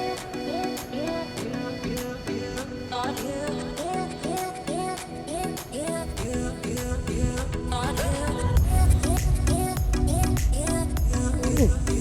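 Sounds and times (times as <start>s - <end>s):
sung melody over steady beat: 0.0s - 12.0s.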